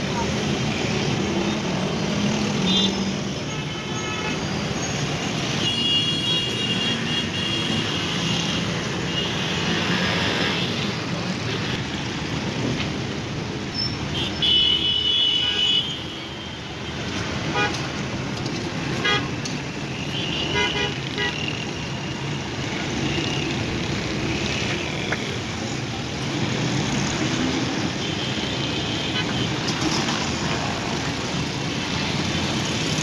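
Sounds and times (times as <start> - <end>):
busy street traffic: 0.0 - 33.0.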